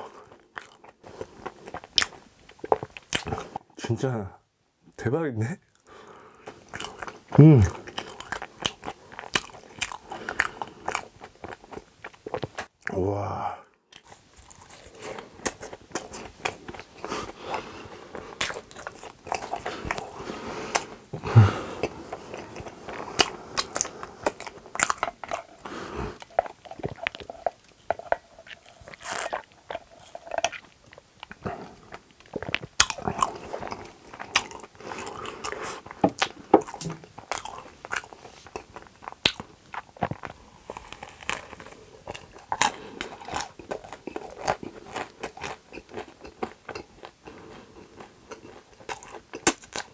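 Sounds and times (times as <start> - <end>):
person chewing and crunching: 0.0 - 3.7, 5.7 - 13.0, 13.9 - 49.9.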